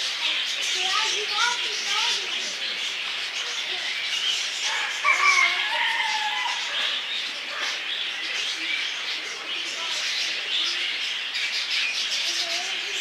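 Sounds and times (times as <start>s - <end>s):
birds calling and chirping: 0.0s - 13.0s.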